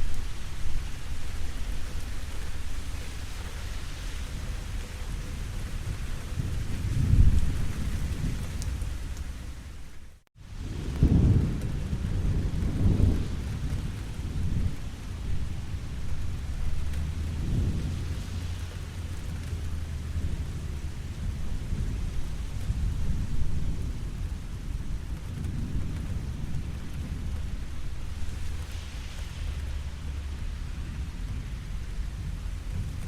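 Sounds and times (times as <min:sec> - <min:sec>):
rolling thunder: 0:00.0 - 0:09.8, 0:10.4 - 0:33.0
steady rain falling: 0:00.0 - 0:33.0.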